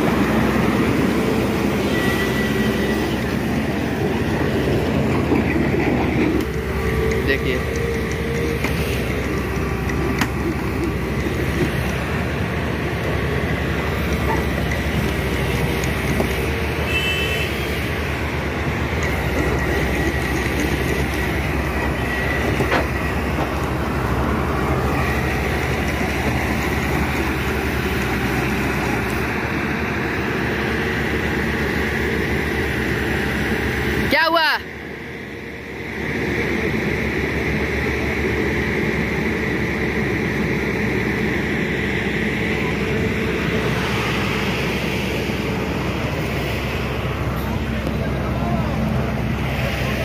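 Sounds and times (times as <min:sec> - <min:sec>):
excavator diesel engines rumbling: 0:00.0 - 0:50.0.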